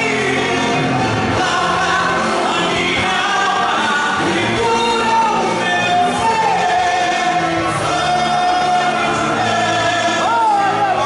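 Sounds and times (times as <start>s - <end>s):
choir singing worship song: 0.0s - 11.0s.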